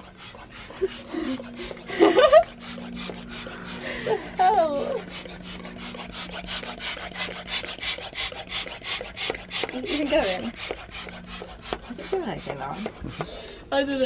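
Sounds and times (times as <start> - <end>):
air pump hum: 0.0 - 14.0
plastic rubbing and rustling: 0.0 - 14.0.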